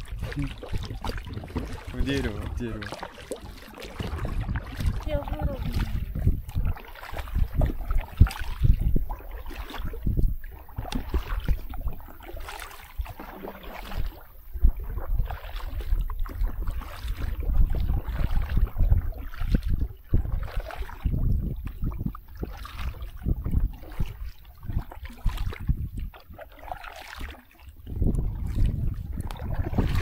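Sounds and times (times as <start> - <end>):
wind buffeting microphone: 0.0 - 26.6, 27.2 - 30.0
paddle splashes and water sloshing: 0.0 - 30.0.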